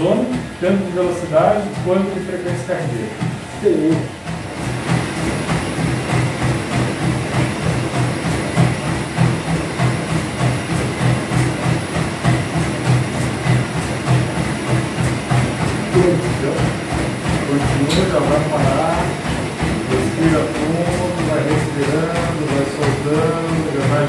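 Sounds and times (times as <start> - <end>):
running footsteps on treadmill: 0.0 - 24.0.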